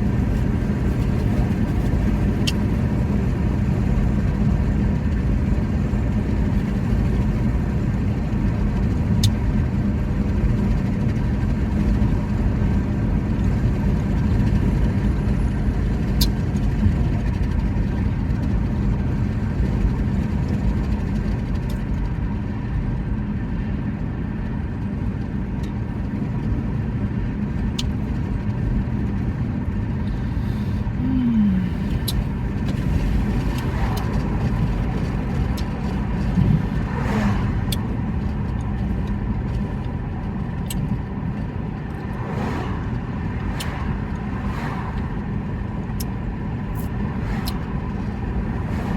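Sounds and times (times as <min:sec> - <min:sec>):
low vehicle rumble: 0:00.0 - 0:48.9.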